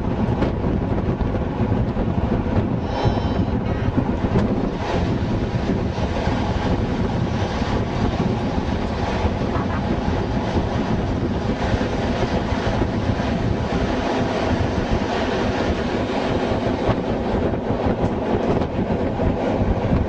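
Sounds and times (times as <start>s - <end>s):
train wheels rumbling on rails: 0.0s - 20.0s
wind on microphone: 0.0s - 20.0s.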